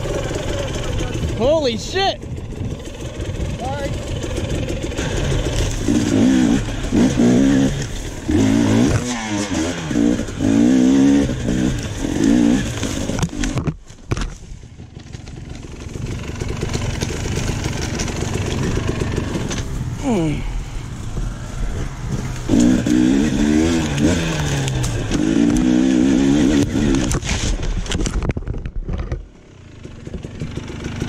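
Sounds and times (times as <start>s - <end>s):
dirt bike engine revving: 0.0s - 13.6s, 14.8s - 20.5s, 21.2s - 27.5s, 29.6s - 31.0s.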